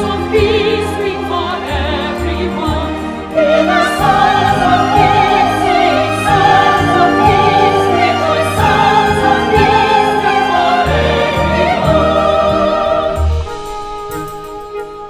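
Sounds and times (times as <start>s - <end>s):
singing with vibrato: 0.0s - 13.5s
instrumental backing with bass: 0.0s - 15.0s.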